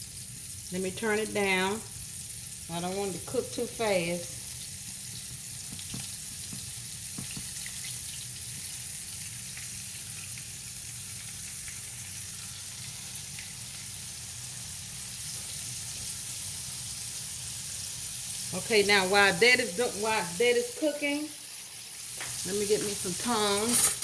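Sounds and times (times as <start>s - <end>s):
meat frying in hot oil: 0.0s - 24.0s.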